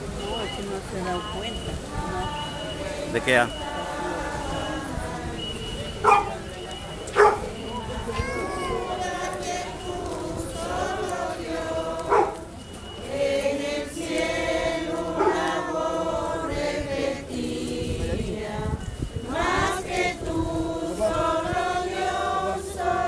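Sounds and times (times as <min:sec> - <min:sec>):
crowd singing a hymn: 0:00.0 - 0:23.0.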